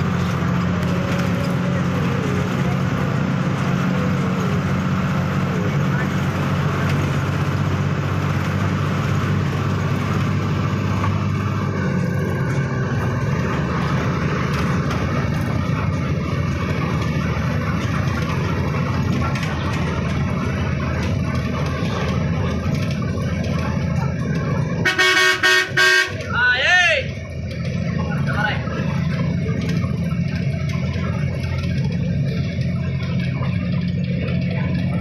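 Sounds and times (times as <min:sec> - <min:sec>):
road noise: 0:00.0 - 0:35.0
vehicle engine hum: 0:00.0 - 0:35.0.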